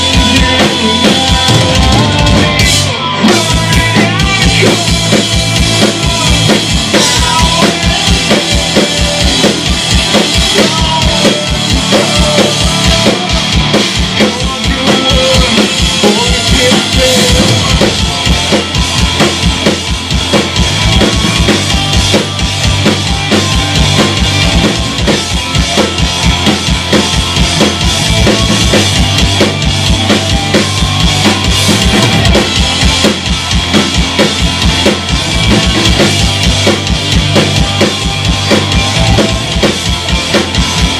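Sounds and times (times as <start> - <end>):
rapid kick drum beats: 0.0 - 40.9
rock band playing: 0.0 - 40.9.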